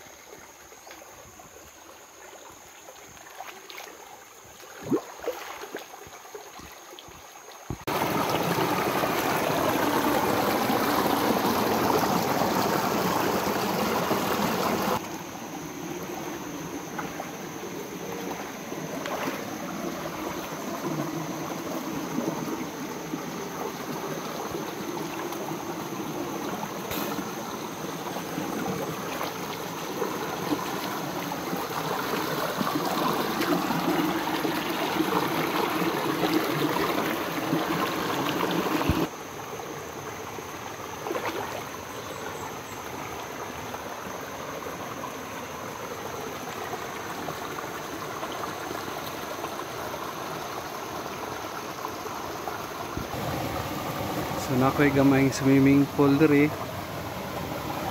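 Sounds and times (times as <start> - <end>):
stream rippling over stones: 0.0 - 57.9.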